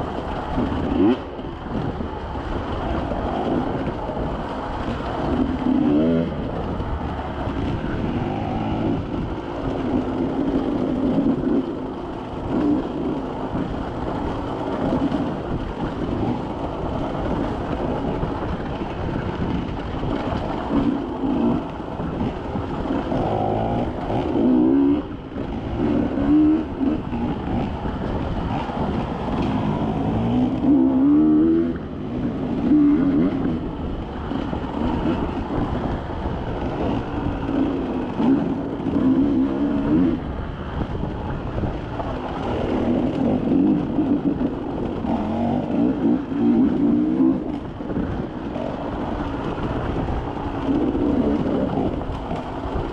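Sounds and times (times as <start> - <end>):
off-road engine revving: 0.0 - 52.9.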